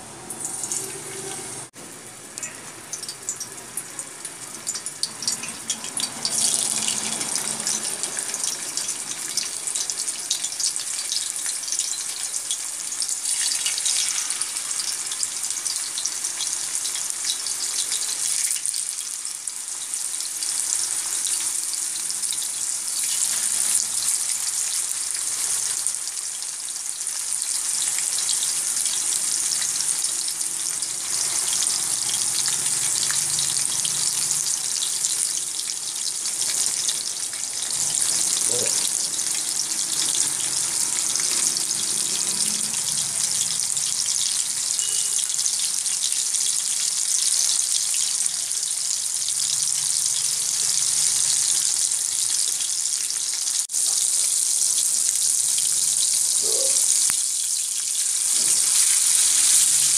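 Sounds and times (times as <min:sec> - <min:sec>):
fish sizzling in hot oil: 0:00.0 - 0:59.9.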